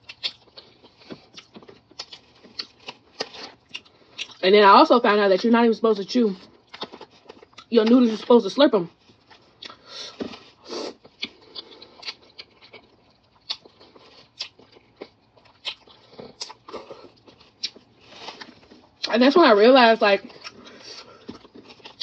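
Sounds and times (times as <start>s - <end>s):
person chewing: 0.0s - 4.4s, 6.4s - 8.3s, 9.0s - 19.1s, 20.2s - 22.0s.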